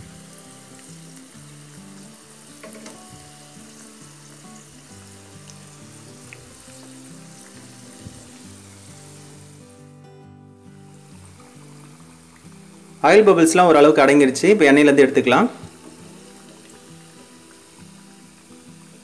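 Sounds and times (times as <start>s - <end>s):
food deep-frying in bubbling oil: 0.0s - 9.7s, 10.7s - 14.1s, 15.6s - 19.0s.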